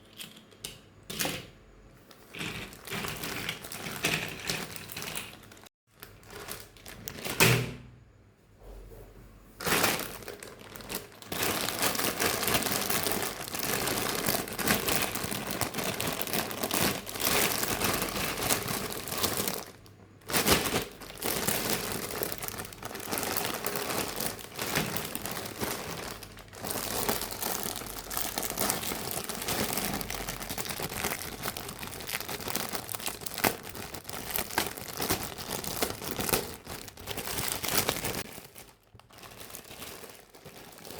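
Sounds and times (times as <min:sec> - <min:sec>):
plastic packaging crinkling: 0:02.3 - 0:07.4, 0:09.6 - 0:40.9.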